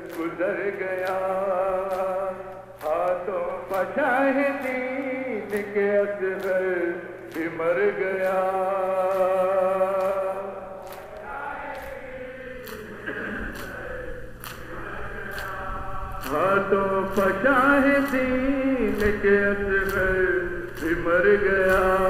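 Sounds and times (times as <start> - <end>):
lead reciter at a microphone: 0.0 - 22.0
men chanting a lament: 0.0 - 22.0.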